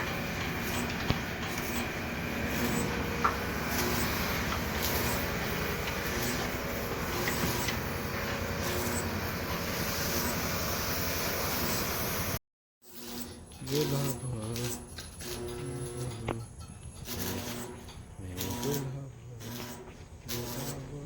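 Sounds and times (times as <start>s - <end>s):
engine running with even pulsing: 0.0s - 21.0s.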